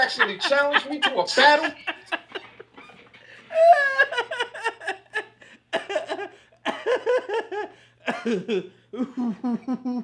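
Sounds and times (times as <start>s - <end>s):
person laughing hard: 0.0s - 2.7s, 3.5s - 10.0s.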